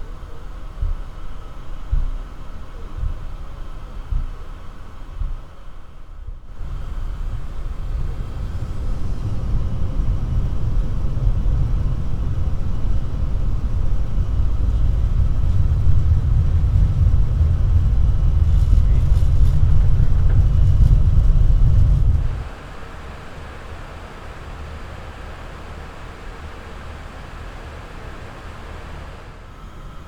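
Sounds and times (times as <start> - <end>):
jet engines rumbling on takeoff: 0.0 - 30.0.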